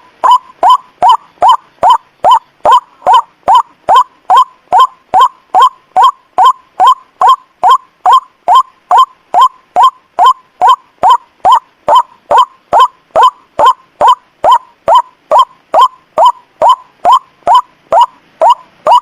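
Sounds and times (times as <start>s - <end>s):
waterhen calling: 0.0s - 19.0s.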